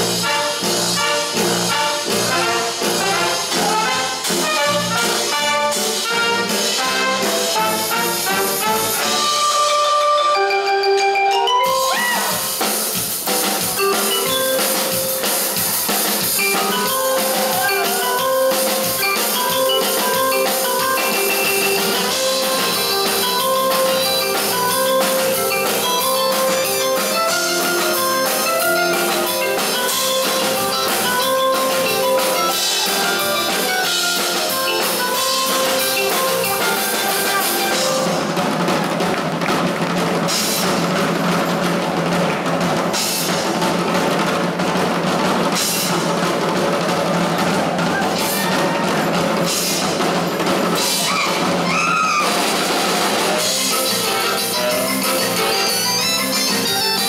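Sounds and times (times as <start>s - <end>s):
drum kit beat: 0.0s - 57.0s
live band music: 0.0s - 57.0s.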